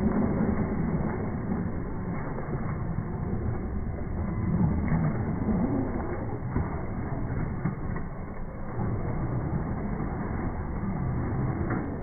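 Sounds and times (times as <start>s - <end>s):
low muffled rumble of rc trucks: 0.0s - 12.0s
wavering low whine: 0.0s - 12.0s.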